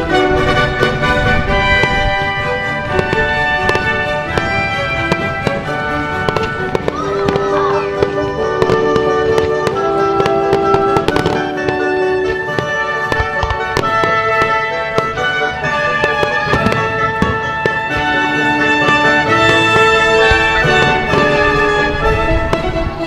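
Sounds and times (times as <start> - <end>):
fireworks banging and crackling: 0.0 - 23.0
music with long held notes: 0.0 - 23.0.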